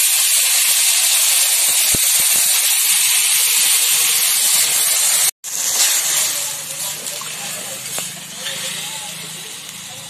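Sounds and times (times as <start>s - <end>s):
water hissing in hot wok: 0.0s - 10.0s.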